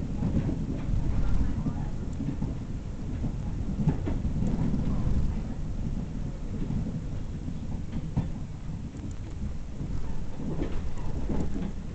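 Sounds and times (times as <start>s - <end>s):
train rumbling along track: 0.0s - 11.9s.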